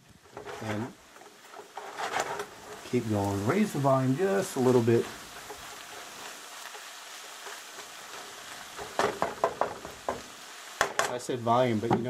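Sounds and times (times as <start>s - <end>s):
vegetables sizzling in oil: 0.0s - 12.0s
spatula scraping a pan: 0.2s - 10.9s.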